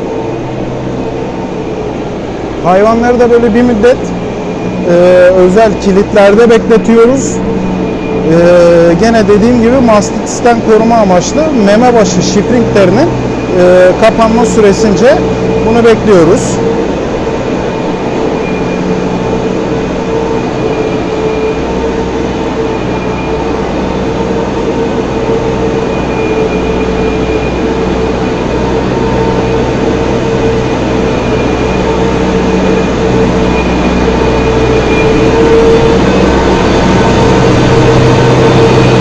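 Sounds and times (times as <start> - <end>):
feed mixer drive whining: 0.0 - 39.0
tractor engine rumbling: 0.0 - 39.0.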